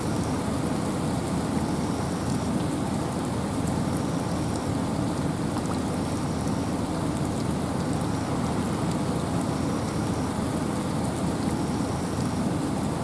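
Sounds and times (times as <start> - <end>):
rain falling through forest: 0.0 - 13.0
wind: 0.0 - 13.0
faint water drips: 1.7 - 13.0.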